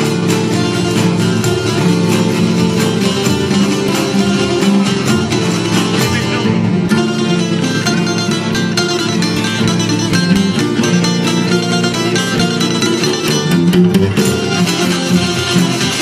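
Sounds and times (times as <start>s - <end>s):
folk music on plucked strings: 0.0s - 16.0s.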